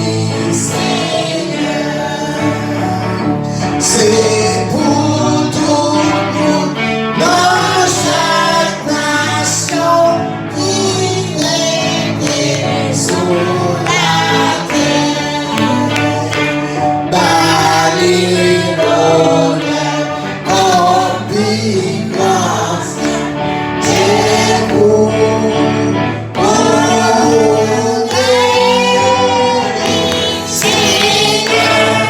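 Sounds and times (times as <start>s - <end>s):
group singing gospel: 0.0s - 32.0s
instrumental accompaniment: 0.0s - 32.0s.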